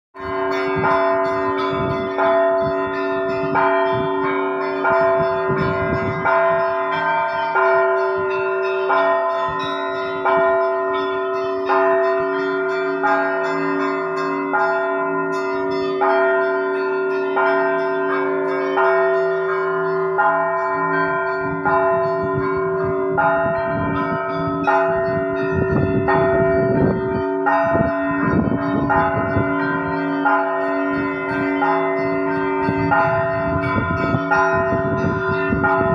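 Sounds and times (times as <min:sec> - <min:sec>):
higher church bells striking: 0:00.2 - 0:35.9
hum of large low bells: 0:00.2 - 0:35.9.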